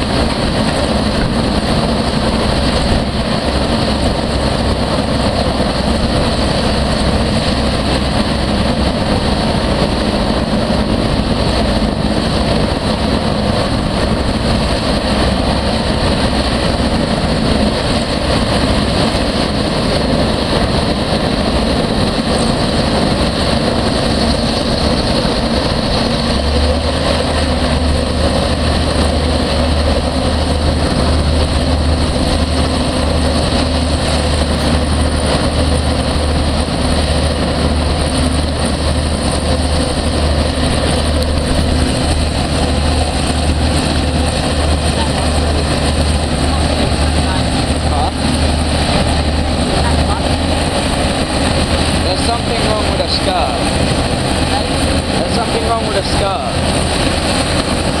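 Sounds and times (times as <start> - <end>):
deep low hum: 0.0 - 58.0
hovercraft engine drone: 0.0 - 58.0.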